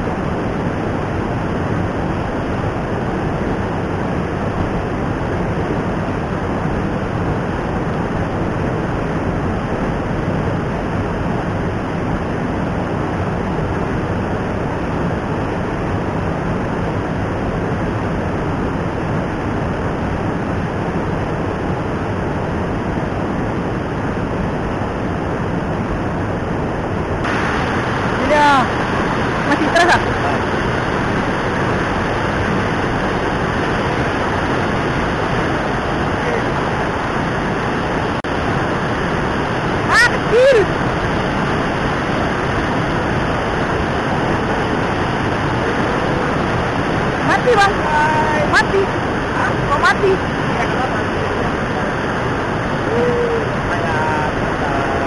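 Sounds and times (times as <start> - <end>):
river water rushing over weir: 0.0 - 55.0.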